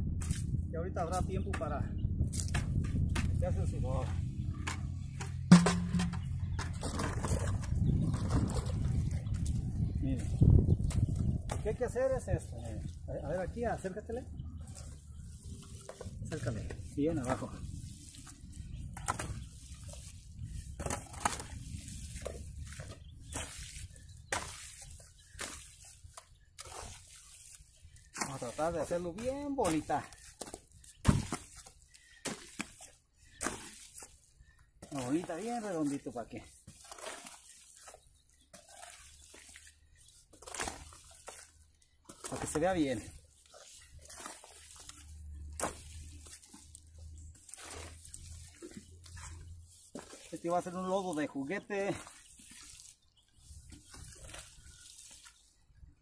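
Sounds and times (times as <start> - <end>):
hoe squelching through wet mud: 4.5 - 56.0.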